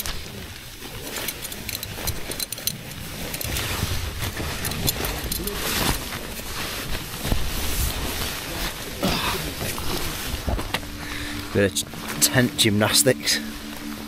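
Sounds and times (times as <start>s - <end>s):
trousers rustling and scuffing: 0.0s - 14.0s
low rumble of handling: 0.2s - 12.5s.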